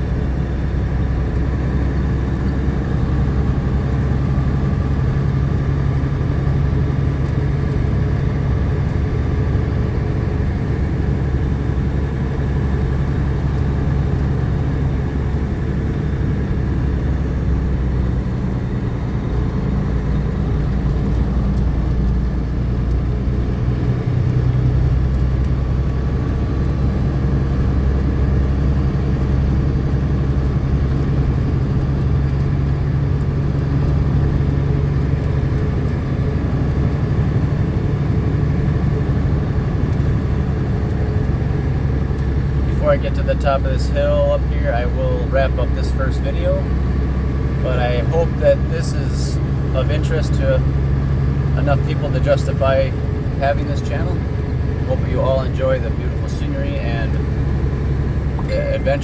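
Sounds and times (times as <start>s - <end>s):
road noise: 0.0s - 59.0s
truck engine droning: 0.0s - 59.0s.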